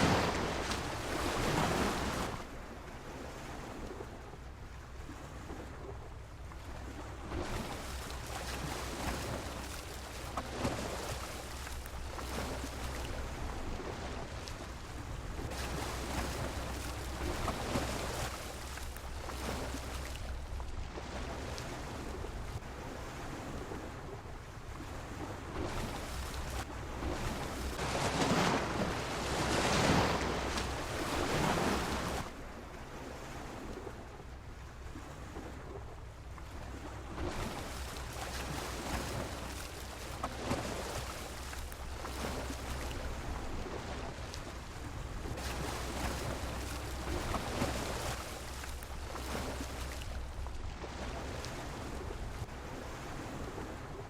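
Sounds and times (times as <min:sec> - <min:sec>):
sea waves washing against pier: 0:00.0 - 0:54.0.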